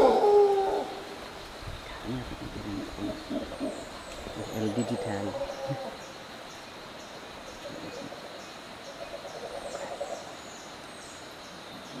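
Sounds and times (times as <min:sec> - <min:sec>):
insects hissing: 0:00.0 - 0:12.0.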